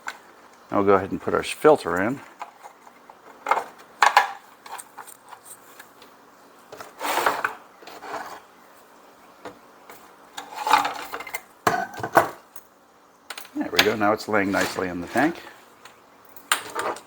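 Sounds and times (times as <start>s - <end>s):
rubbing and scraping handling noises: 0.0s - 9.0s, 9.9s - 12.4s, 13.6s - 16.0s, 16.6s - 17.0s.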